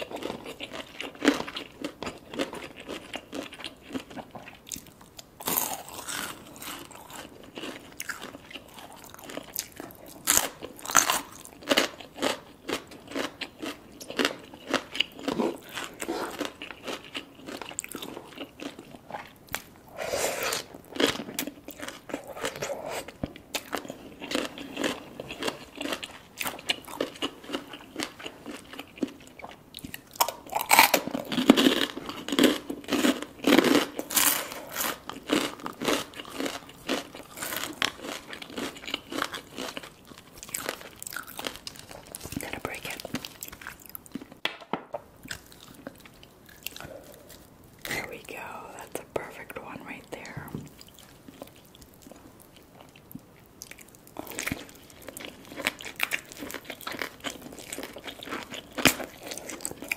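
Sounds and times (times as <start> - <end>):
crunching bites and wet chewing: 0.0 - 44.5, 45.1 - 59.9.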